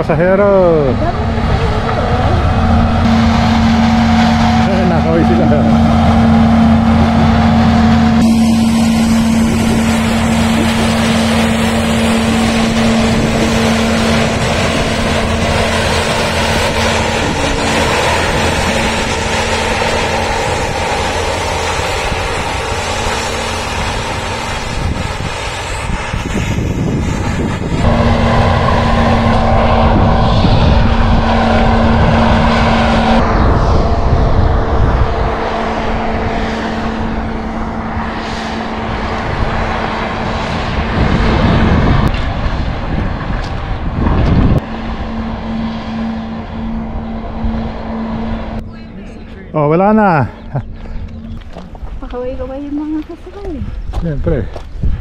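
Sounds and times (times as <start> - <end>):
train engine humming: 0.0 - 55.0.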